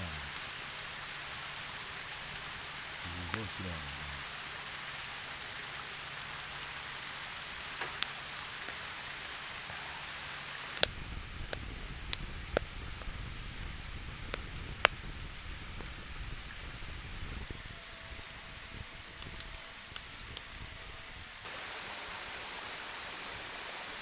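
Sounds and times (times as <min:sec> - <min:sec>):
wood fire crackling and popping: 0:00.0 - 0:21.5.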